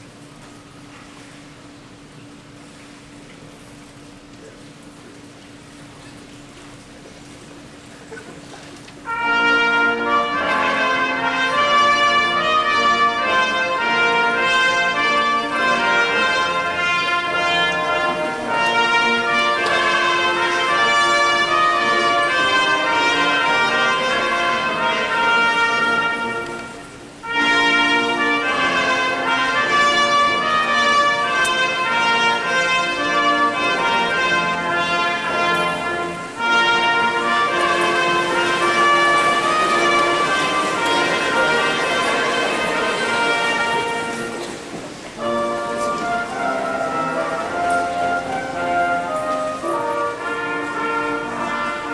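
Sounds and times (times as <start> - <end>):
brass ensemble playing chords: 9.0 - 51.9.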